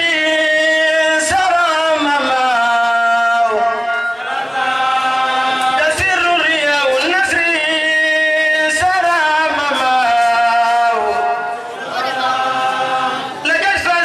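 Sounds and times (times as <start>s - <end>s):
person chanting a devotional song: 0.0s - 14.0s.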